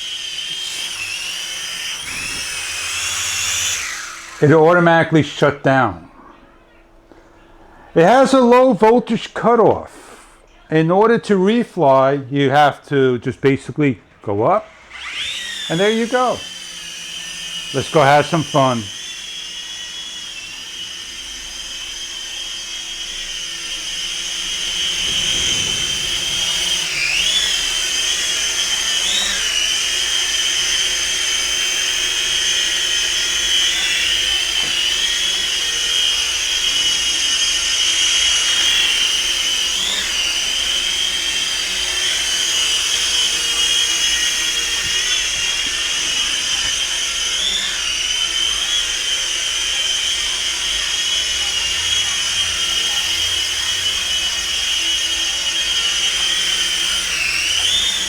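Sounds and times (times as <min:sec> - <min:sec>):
toy helicopter rotors whining: 0:00.0 - 0:58.0.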